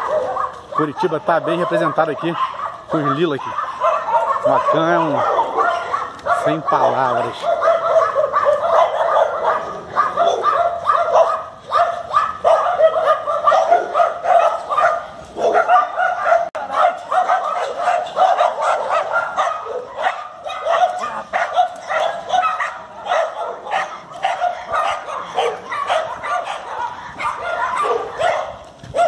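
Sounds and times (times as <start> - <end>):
dog barking rapidly: 0.0 - 29.0.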